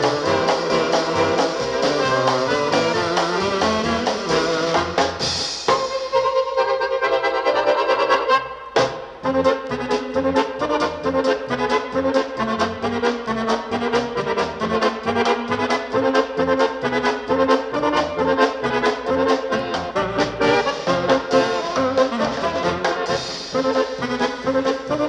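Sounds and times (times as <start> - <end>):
polka music with accordion and brass: 0.0 - 25.0.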